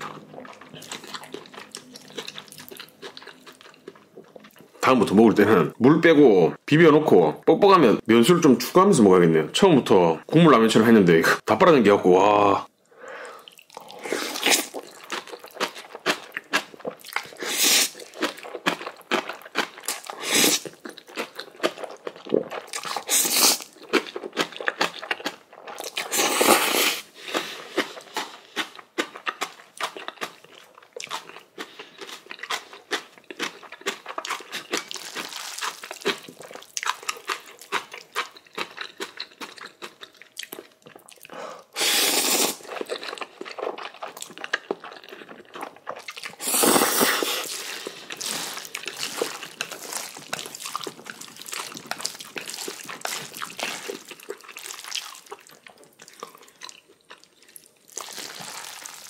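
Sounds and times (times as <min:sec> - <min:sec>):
chewing and crunching noodles: 0:00.0 - 0:04.9, 0:13.4 - 0:59.0.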